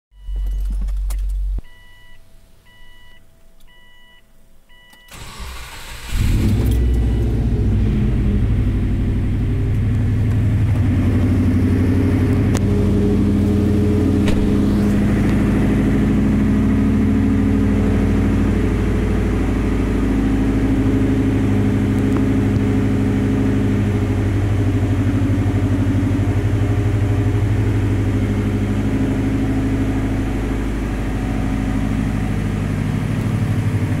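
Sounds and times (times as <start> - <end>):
car engine starting and idling: 0.2 - 34.0.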